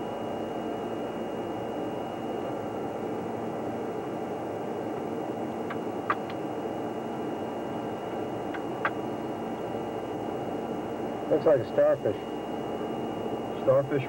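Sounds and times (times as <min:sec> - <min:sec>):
machinery hum with high whine: 0:00.0 - 0:14.0.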